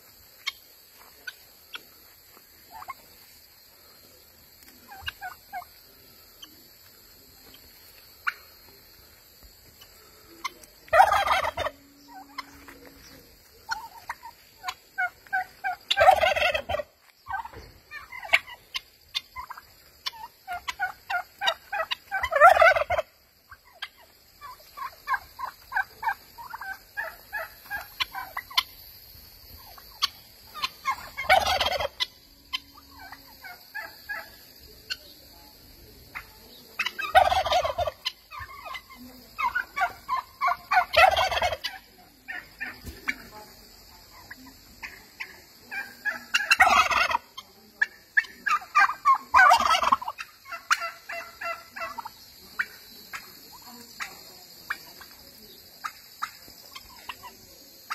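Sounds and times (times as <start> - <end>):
soft rippling turkey calls: 0.0 - 57.9
turkey gobbling: 0.0 - 57.9.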